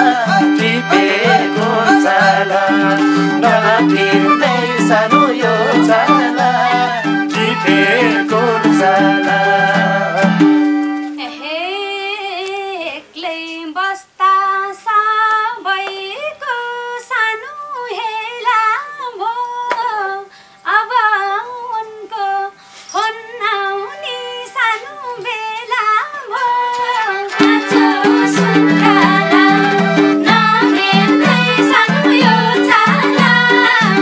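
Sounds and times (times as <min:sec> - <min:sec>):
woman singing folk song: 0:00.0 - 0:34.0.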